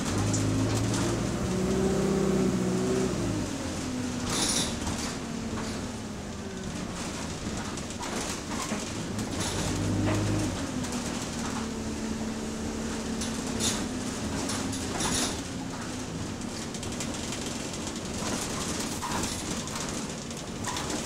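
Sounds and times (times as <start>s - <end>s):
bus body rattling and knocking: 0.0s - 21.0s
bus diesel engine droning: 0.0s - 21.0s.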